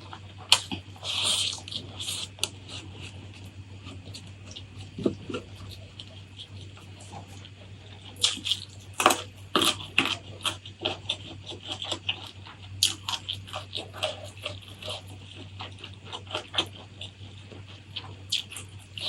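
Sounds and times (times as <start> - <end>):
chewing crunchy food: 0.0 - 19.0.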